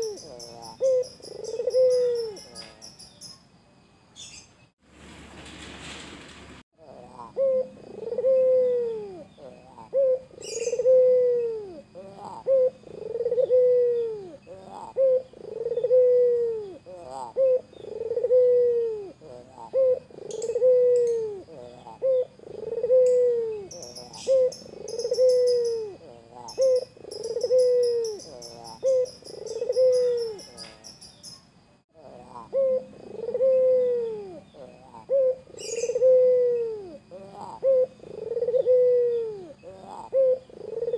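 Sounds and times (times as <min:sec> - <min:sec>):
dove cooing: 0:00.0 - 0:02.6, 0:06.8 - 0:30.8, 0:32.0 - 0:40.9
small birds twittering: 0:06.8 - 0:40.9.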